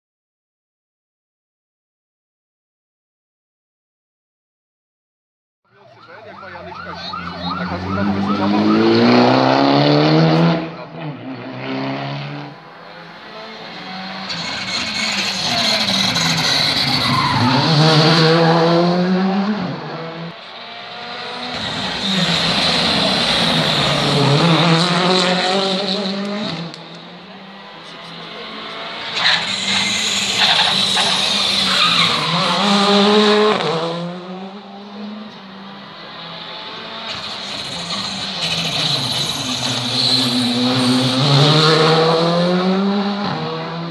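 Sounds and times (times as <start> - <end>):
rally car engines revving: 5.9 - 43.9.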